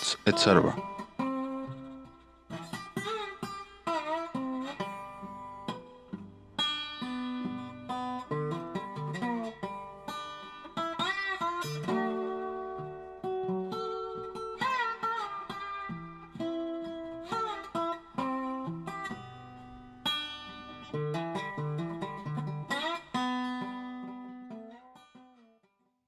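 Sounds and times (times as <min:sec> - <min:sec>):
plucked guitar music: 0:00.0 - 0:25.8.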